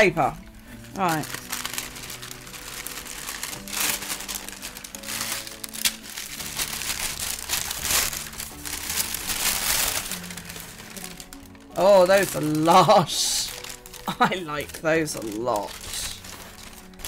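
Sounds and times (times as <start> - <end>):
soft background music: 0.0 - 17.0
tissue paper rustling: 0.0 - 17.0.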